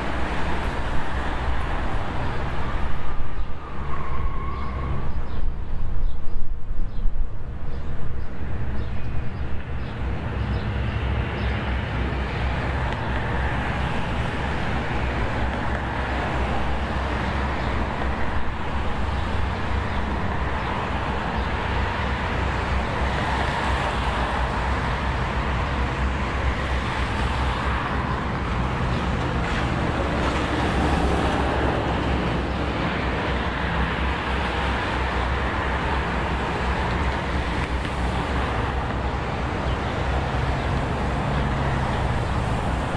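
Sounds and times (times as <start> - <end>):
cars passing on wet road: 0.0 - 5.0, 9.3 - 42.9
low traffic engine hum: 0.0 - 42.9.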